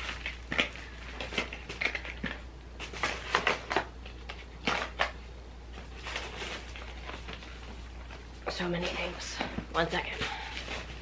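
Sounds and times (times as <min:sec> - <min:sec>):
packaging rustle: 0:00.0 - 0:09.2.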